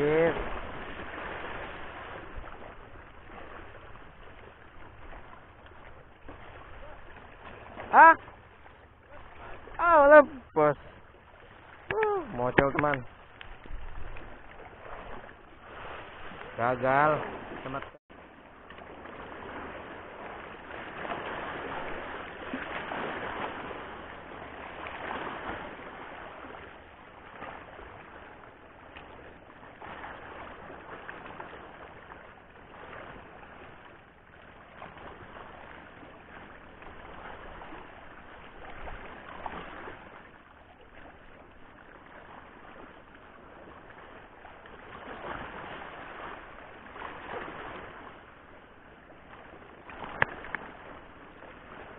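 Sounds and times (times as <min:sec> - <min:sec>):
sea water washing against rocks: 0:00.0 - 0:51.9.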